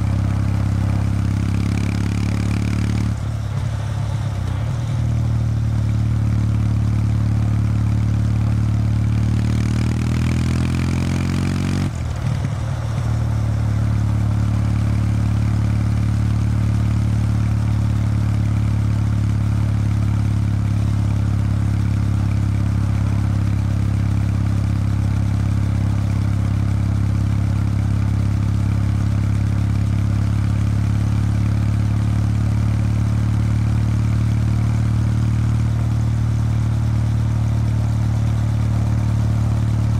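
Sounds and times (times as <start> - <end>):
motorcycle engine riding along: 0.0 - 39.9.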